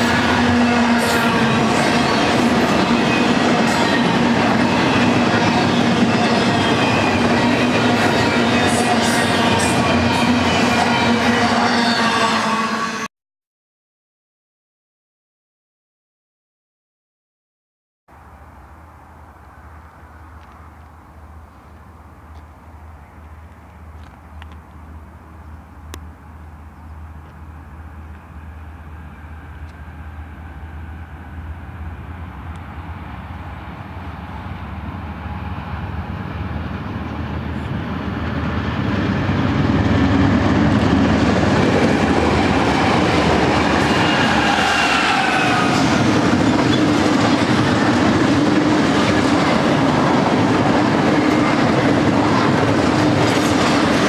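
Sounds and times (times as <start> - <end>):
steel wheels rumbling on rails: 0.0 - 12.4, 18.8 - 54.0
diesel locomotive engines: 0.0 - 13.1, 18.1 - 54.0.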